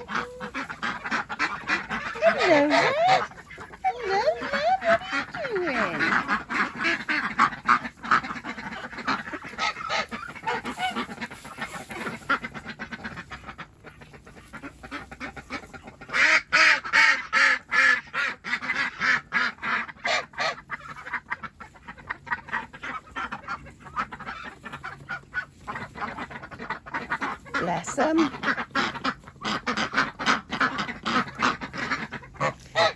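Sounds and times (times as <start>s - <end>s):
ducks quacking: 0.0s - 32.9s
geese honking: 0.0s - 32.9s.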